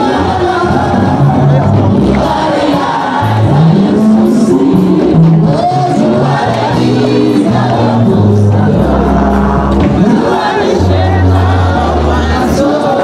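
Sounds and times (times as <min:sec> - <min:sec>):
low bass line: 0:00.0 - 0:02.6, 0:03.2 - 0:13.0
band playing: 0:00.0 - 0:13.0
group of voices singing: 0:00.0 - 0:13.0.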